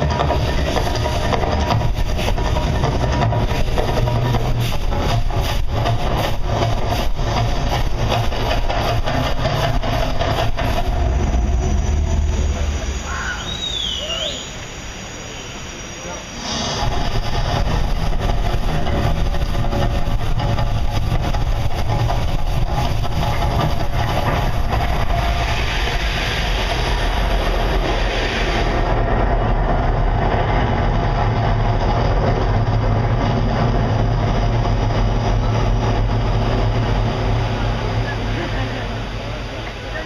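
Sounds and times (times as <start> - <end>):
low rumble: 0.0 - 40.0
hiss: 0.1 - 40.0.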